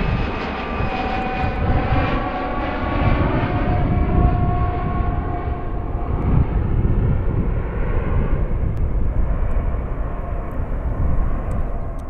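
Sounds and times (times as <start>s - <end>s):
faint engine whine: 0.0s - 12.0s
jet engines rumbling: 0.0s - 12.0s.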